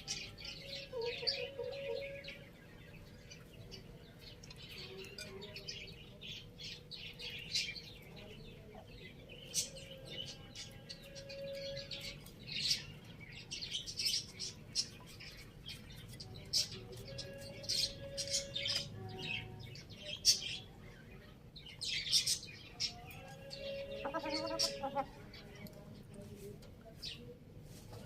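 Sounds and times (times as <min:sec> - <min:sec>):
birds chirping: 0:00.0 - 0:27.3.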